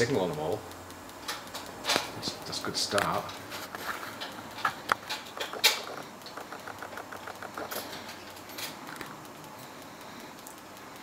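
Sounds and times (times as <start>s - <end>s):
tape machine clicks: 0.0s - 11.0s
tape machine ticking: 0.0s - 11.0s.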